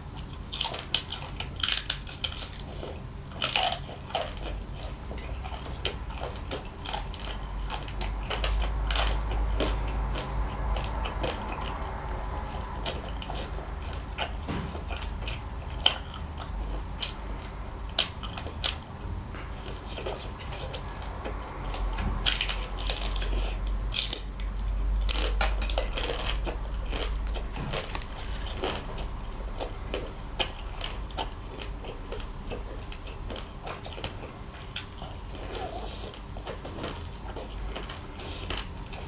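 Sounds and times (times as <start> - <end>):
person chewing crunchy food: 0.0 - 39.0.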